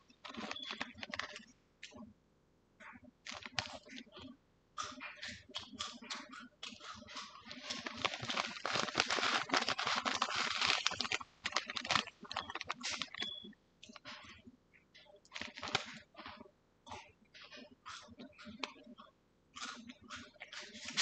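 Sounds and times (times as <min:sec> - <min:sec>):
tapping and crinkling: 0:00.0 - 0:02.0, 0:03.2 - 0:21.0.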